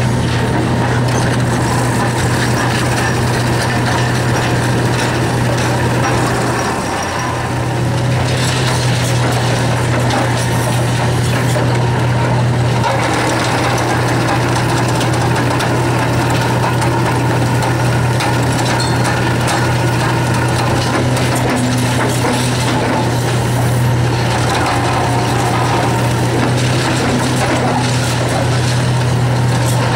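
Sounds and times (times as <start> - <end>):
excavator engine and hydraulics: 0.0 - 29.9
concrete cracking: 0.2 - 29.9.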